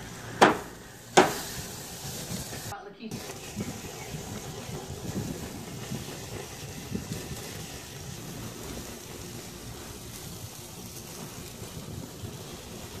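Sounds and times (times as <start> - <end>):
patties sizzling on a grill: 0.0 - 13.0
wind rumbling on microphone: 1.4 - 13.0.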